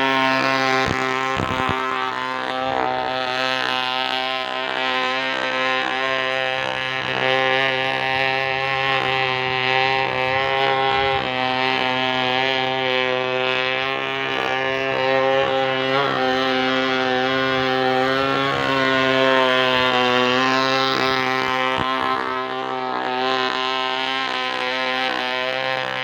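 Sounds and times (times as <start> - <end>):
small engine droning: 0.0 - 26.0.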